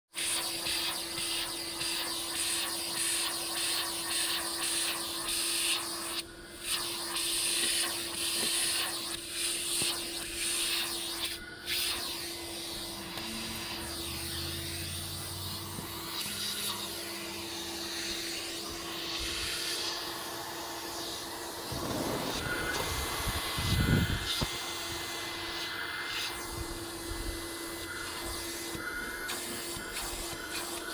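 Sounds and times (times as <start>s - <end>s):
vacuum cleaner running: 0.2s - 30.9s.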